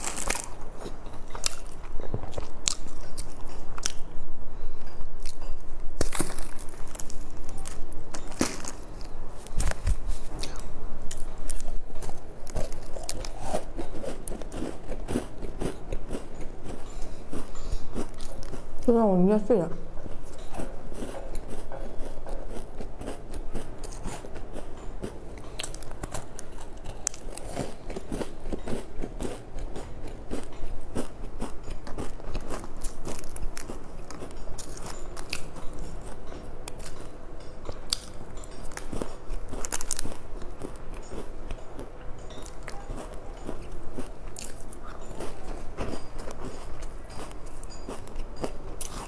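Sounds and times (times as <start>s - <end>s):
crunchy chewing: 0.0s - 4.1s, 5.2s - 18.9s, 20.1s - 49.0s.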